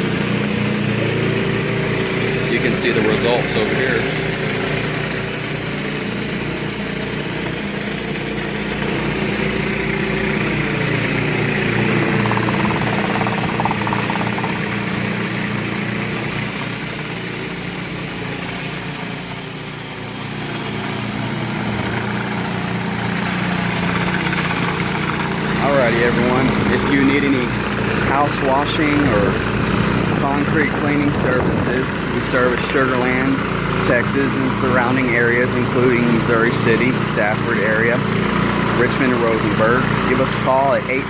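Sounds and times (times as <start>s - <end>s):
pressure washer engine running: 0.0s - 41.0s
water spraying hiss: 0.0s - 41.0s.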